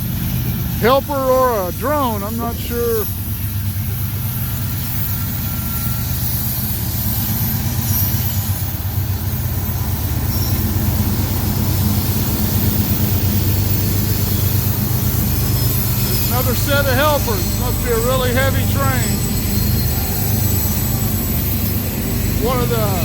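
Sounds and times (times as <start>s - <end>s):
diesel locomotive engine throb: 0.0s - 23.0s.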